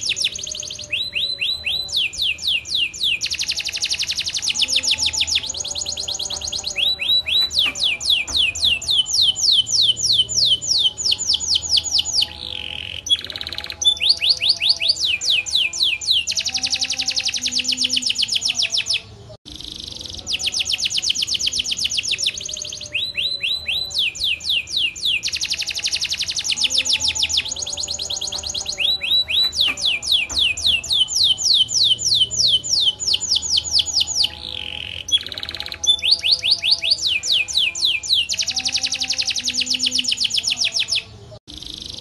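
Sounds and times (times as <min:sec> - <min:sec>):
canary singing fast trills: 0:00.0 - 0:42.0.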